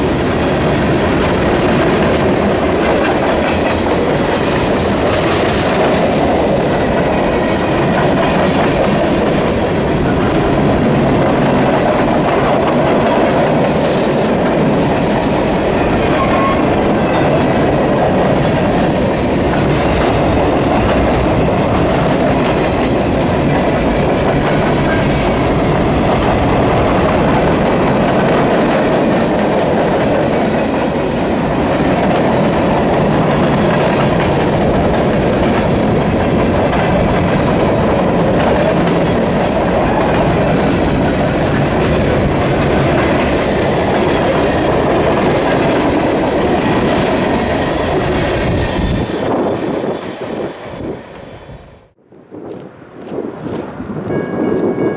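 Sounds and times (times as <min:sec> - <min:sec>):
clickety-clack over rail joints: 0:00.0 - 0:51.3
train wheels rumbling on rail: 0:00.0 - 0:54.9.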